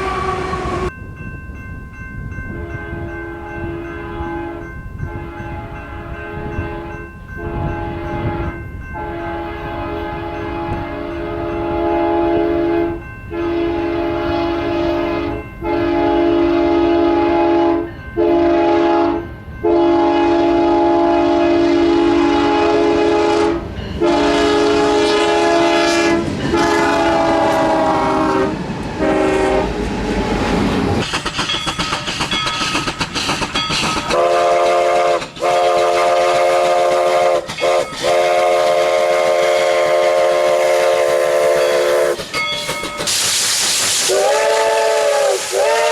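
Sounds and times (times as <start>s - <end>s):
locomotive air horn blasts: 0.0s - 0.9s, 2.6s - 29.8s, 34.1s - 42.2s, 44.0s - 45.9s
train rumbling and clattering by: 0.0s - 45.9s.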